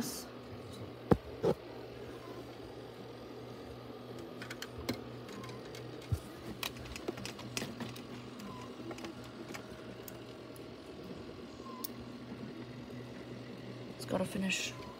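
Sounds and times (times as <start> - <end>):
small motor humming: 1.1 - 14.9.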